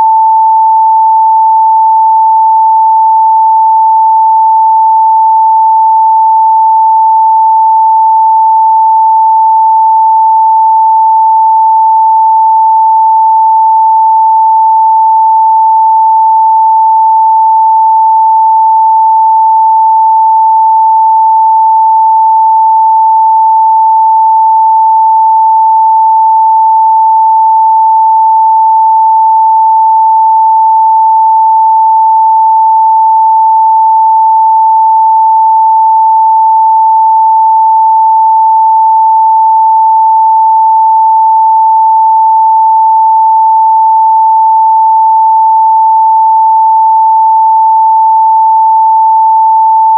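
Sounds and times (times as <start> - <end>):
sine-wave test tone: 0.0 - 49.9.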